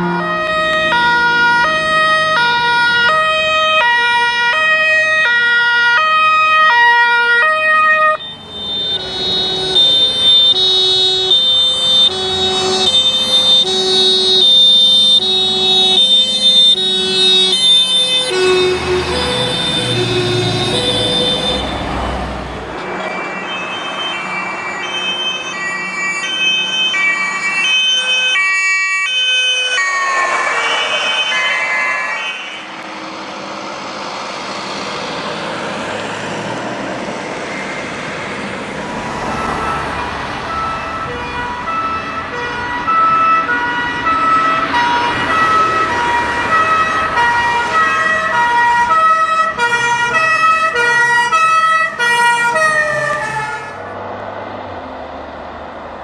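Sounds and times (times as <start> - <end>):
passing vehicle engines and tyres: 0.0 - 56.0
two-tone fire truck sirens: 0.0 - 56.0.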